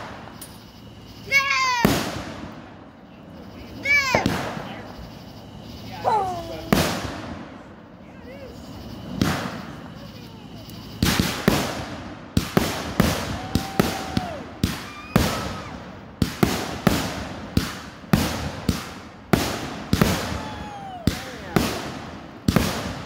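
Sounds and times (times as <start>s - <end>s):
fireworks bangs: 0.0s - 5.1s, 6.0s - 23.0s
fireworks whistling: 0.0s - 23.0s.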